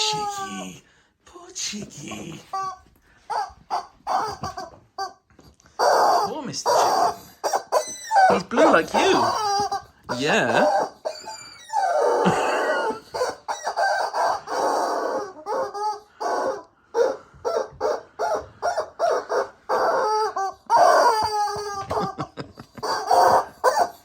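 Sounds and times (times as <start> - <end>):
squawking toy chicken: 1.8 - 24.0.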